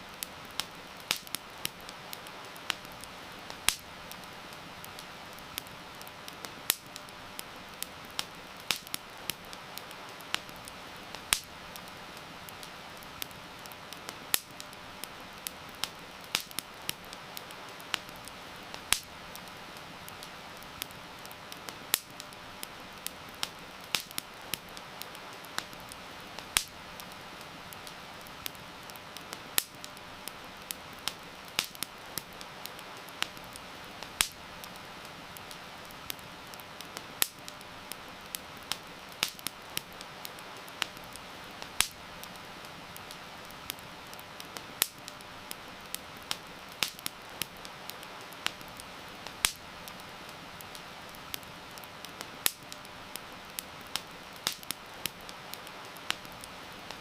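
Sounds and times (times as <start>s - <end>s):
heavy rain hiss: 0.0s - 57.0s
wood fire crackling: 0.0s - 57.0s.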